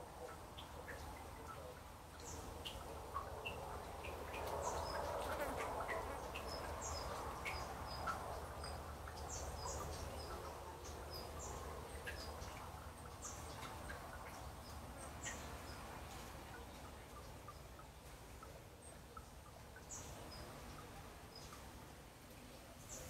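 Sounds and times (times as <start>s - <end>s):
low background hiss: 0.0s - 23.0s.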